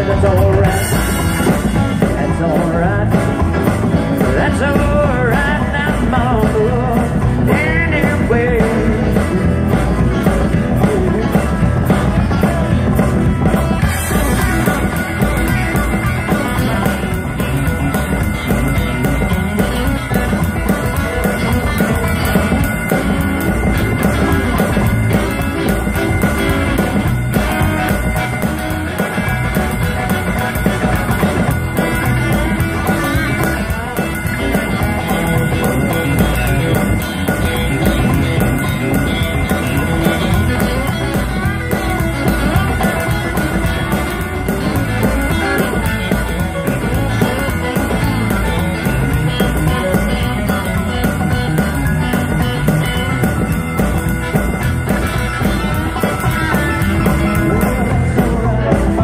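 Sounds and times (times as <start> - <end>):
drum kit: 0.0 - 59.0
electric guitar: 0.0 - 59.0
keyboard: 0.0 - 59.0
upright bass: 0.0 - 59.0.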